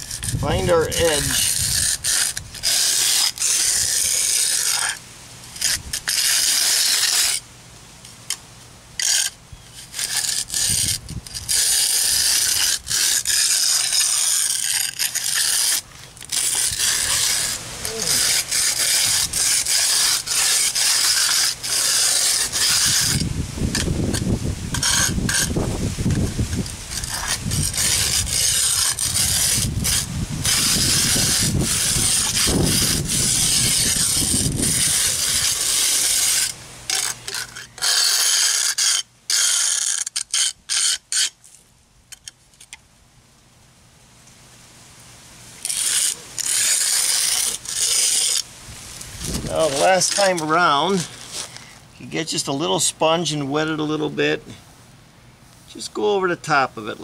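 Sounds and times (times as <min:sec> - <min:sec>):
concrete edger scraping mortar: 0:00.0 - 0:07.4, 0:09.0 - 0:42.8, 0:45.6 - 0:54.1.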